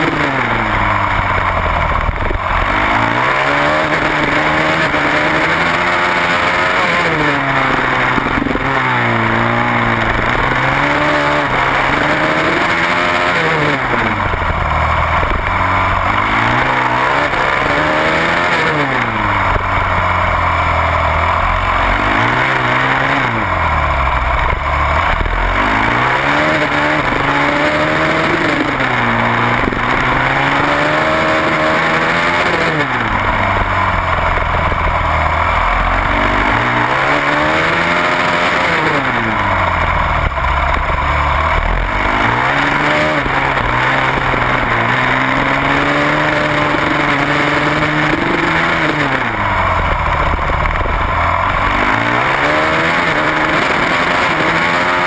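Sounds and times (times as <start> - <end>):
constant rushing noise: 0.0 - 55.0
motorcycle engine revving: 0.0 - 55.0.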